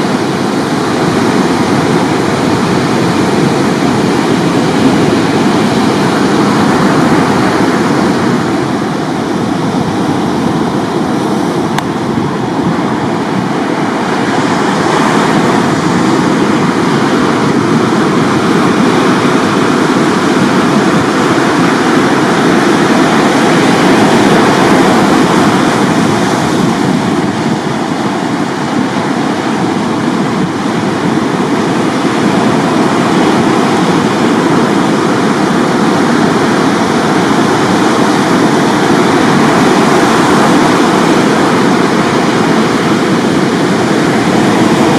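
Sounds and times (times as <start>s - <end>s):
surf breaking on beach: 0.0s - 44.9s.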